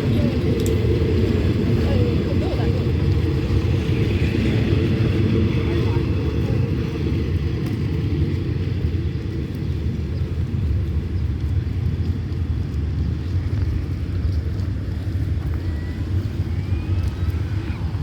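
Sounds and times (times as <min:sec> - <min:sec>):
diesel locomotive rumbling: 0:00.0 - 0:18.0.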